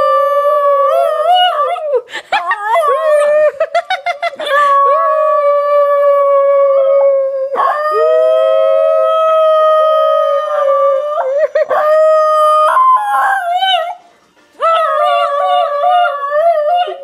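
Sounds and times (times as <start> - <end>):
dog howling: 0.0 - 3.6, 4.5 - 14.0, 14.6 - 17.0.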